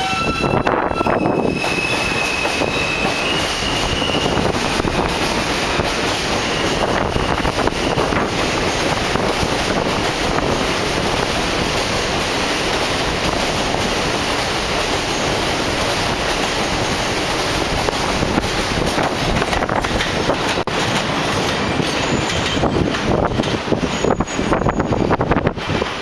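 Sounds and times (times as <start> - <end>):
train wheels rumbling on rail: 0.0 - 26.0
wheels clacking over rail joints: 1.8 - 26.0.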